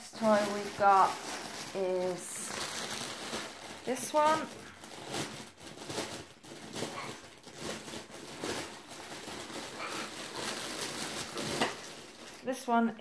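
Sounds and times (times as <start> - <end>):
rustling of parrot toy: 0.2 - 12.5.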